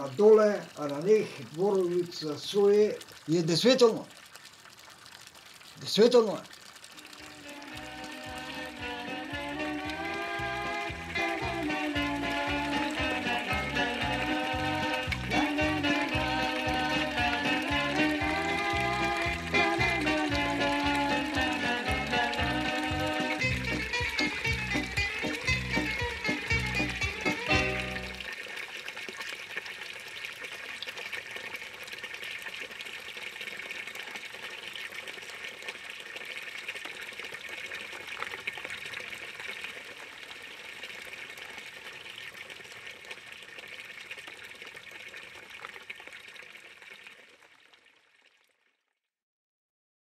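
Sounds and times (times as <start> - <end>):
water running: 0.0 - 42.8.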